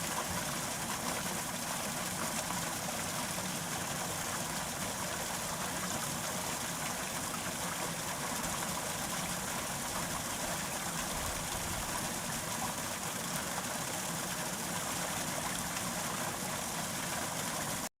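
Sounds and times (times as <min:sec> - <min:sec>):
brook babbling: 0:00.0 - 0:17.9.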